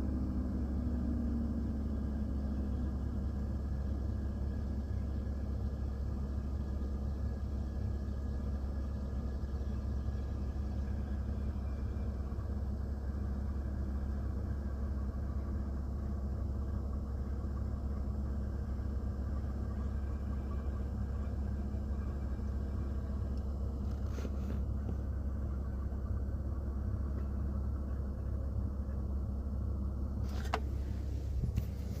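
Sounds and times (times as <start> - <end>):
low rumble inside truck cab: 0.0 - 32.0.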